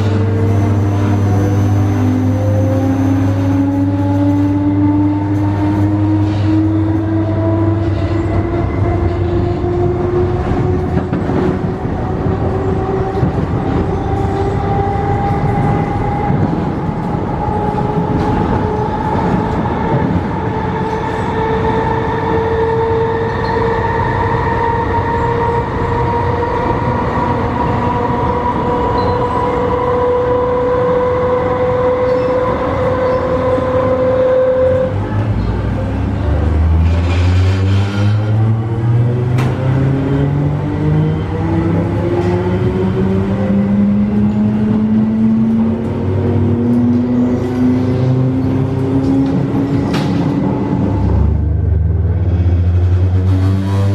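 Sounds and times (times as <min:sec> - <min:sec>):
rumble of running train: 0:00.0 - 0:53.9.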